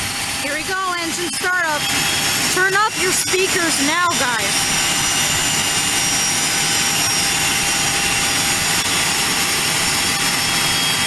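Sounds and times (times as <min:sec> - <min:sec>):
high turbine whine: 0:00.0 - 0:11.0
turbine engine rushing noise: 0:00.0 - 0:11.0.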